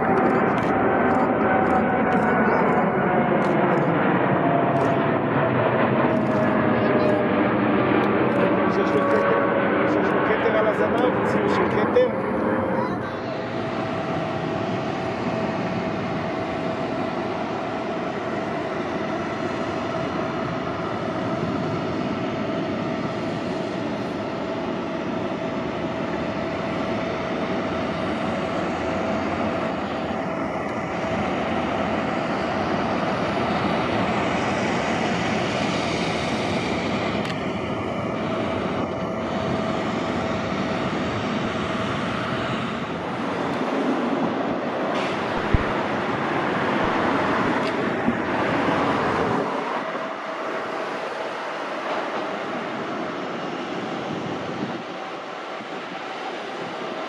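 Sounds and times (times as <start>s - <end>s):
aircraft engines running: 0.0s - 57.0s.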